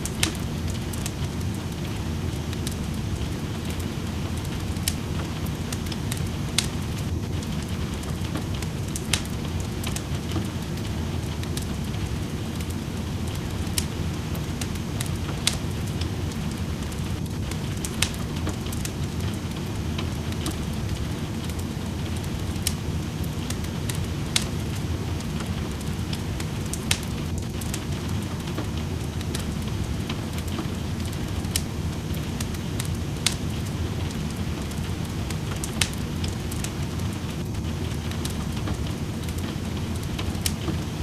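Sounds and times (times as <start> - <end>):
steady rain: 0.0 - 41.0
wood fire crackling: 0.0 - 41.0.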